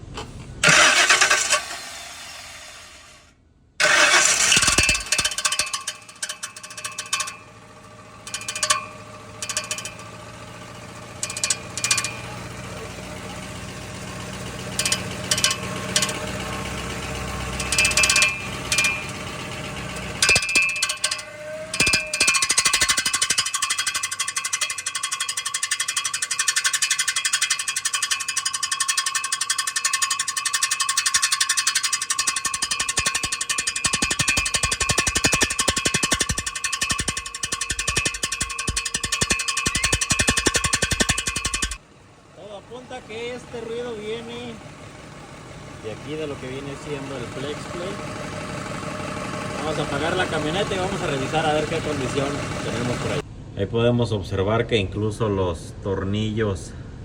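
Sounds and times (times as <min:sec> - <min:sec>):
truck engine starting: 0:00.0 - 0:53.4
engine idling with metallic rattling: 0:00.0 - 0:54.2.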